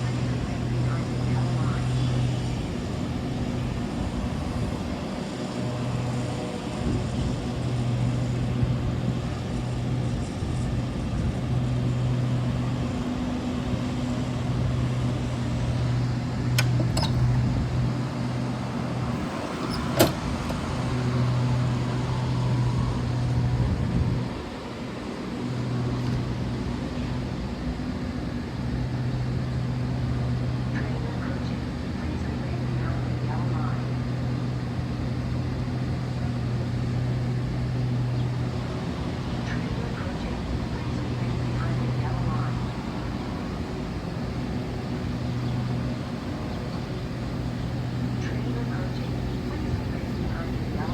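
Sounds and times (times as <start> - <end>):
train idling hum: 0.0 - 50.9.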